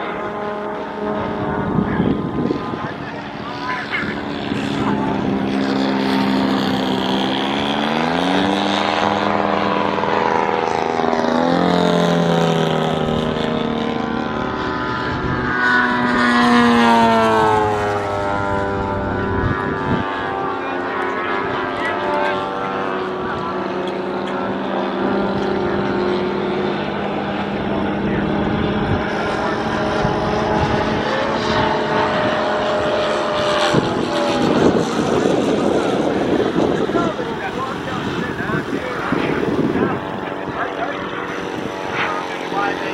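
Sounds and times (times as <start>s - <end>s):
model plane radial engine revving: 0.0s - 42.9s.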